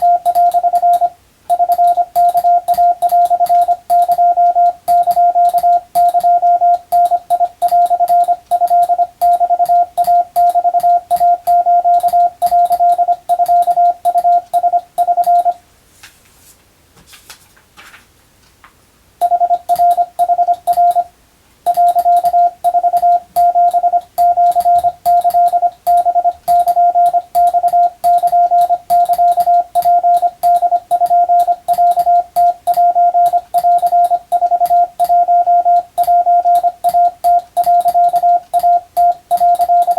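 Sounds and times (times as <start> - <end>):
morse code beeps: 0.0 - 15.6, 19.2 - 21.1, 21.7 - 39.9.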